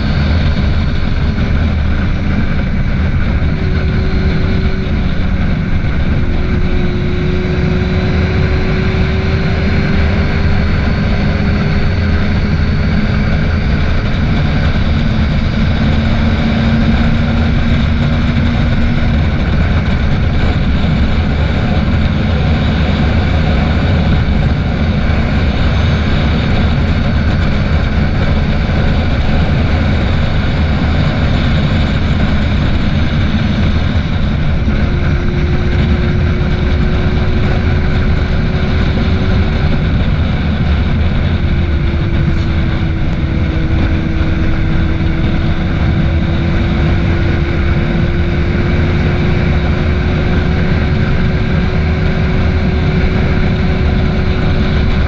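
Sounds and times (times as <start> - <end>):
motorcycle engine at speed: 0.0 - 55.0
wind rushing on microphone: 0.0 - 55.0.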